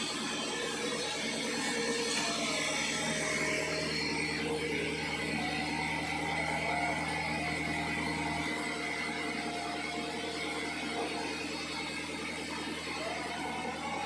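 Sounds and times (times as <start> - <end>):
sawmill saw running: 0.0 - 14.0.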